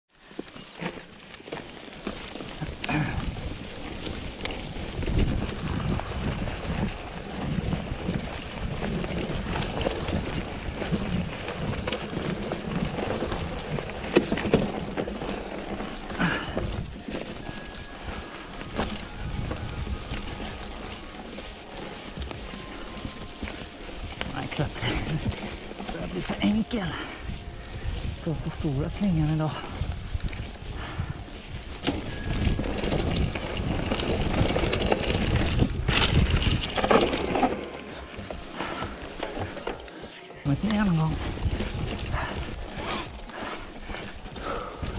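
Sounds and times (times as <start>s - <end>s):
bike tyre rumble on dirt: 0.1s - 44.9s
bike rattles and knocks: 0.2s - 44.9s
wind on microphone: 2.6s - 39.7s, 40.4s - 44.9s.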